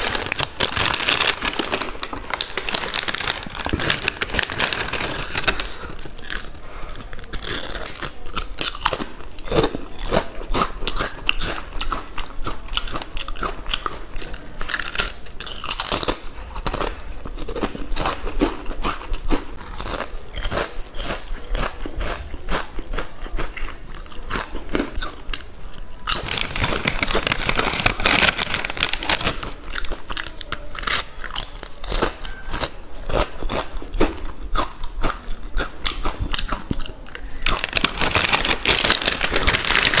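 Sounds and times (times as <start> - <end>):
crunching potato chips: 0.0 - 40.0.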